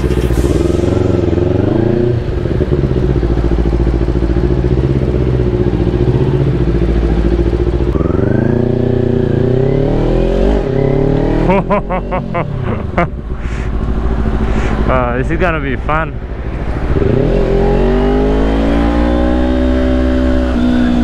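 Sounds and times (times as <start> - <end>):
motorcycle engine revving: 0.0 - 12.4, 13.1 - 21.0.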